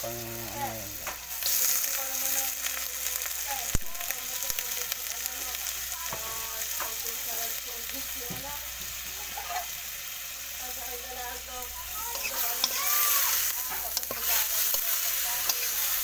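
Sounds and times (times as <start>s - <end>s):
chicken sizzling in a wok: 0.0s - 16.0s.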